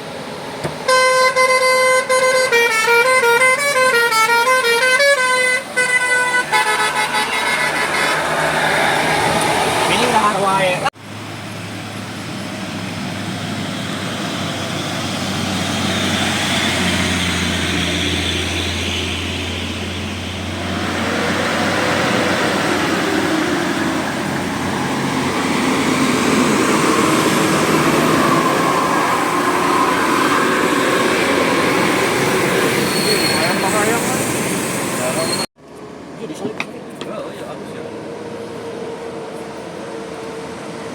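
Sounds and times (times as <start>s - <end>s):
heavy vehicles passing: 0.0s - 40.9s.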